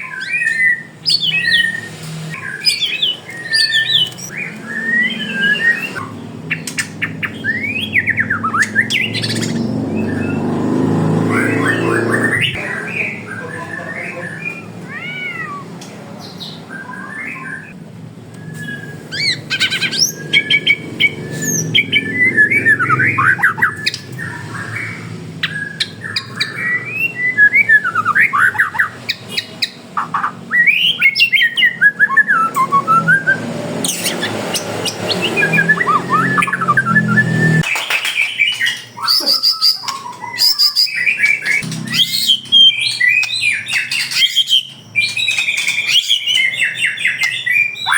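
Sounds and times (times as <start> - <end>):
songbirds singing and calling: 0.0 - 47.9.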